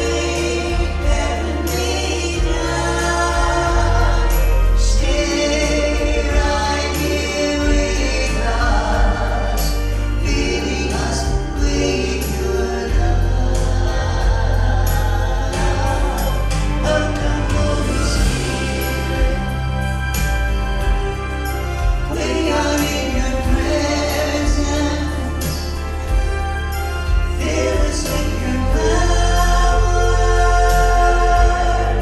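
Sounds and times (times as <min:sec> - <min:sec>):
gospel group singing in harmony: 0:00.0 - 0:32.0
instrumental accompaniment with bass: 0:00.0 - 0:32.0.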